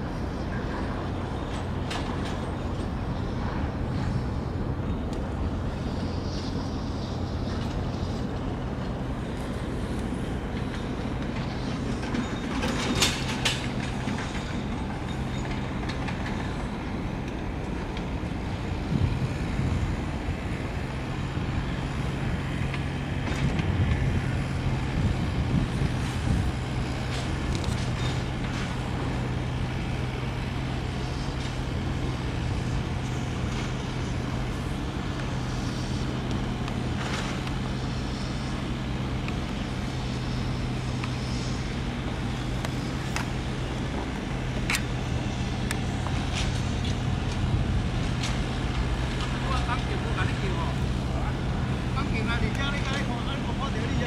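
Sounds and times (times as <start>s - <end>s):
large ship hum and rumble: 0.0s - 54.0s.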